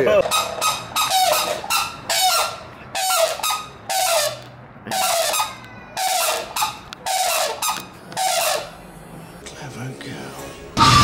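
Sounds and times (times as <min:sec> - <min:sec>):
animal squawking: 0:00.0 - 0:08.8, 0:10.8 - 0:11.0.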